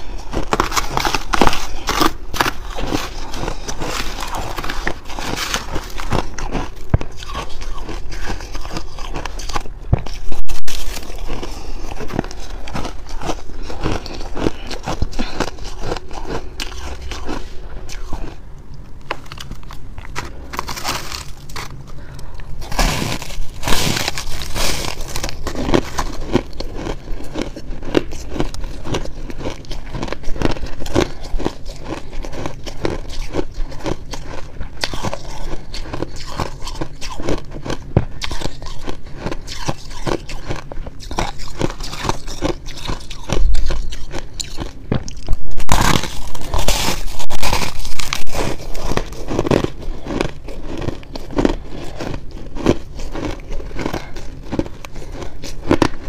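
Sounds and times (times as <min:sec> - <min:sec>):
crunching and chewing ice: 0:00.0 - 0:56.0.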